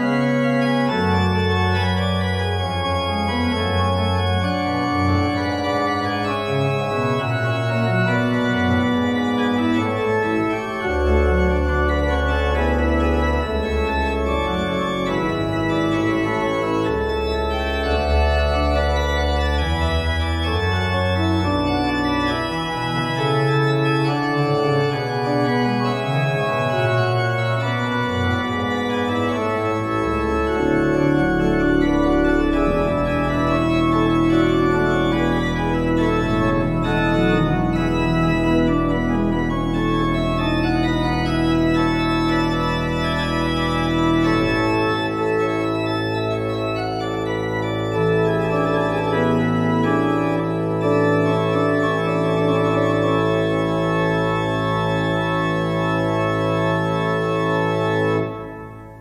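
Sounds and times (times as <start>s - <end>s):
church organ playing: 0.0s - 59.0s
deep organ pedal bass notes: 0.0s - 59.0s.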